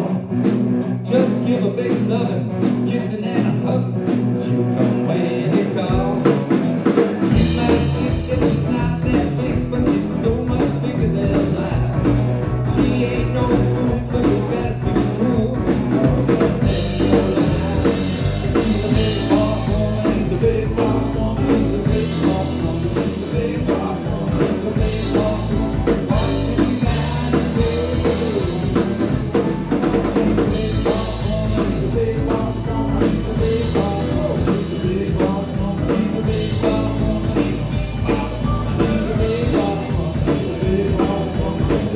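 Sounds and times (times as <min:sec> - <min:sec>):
drums: 0:00.0 - 0:41.9
electric bass: 0:00.0 - 0:41.9
live rock band playing: 0:00.0 - 0:41.9.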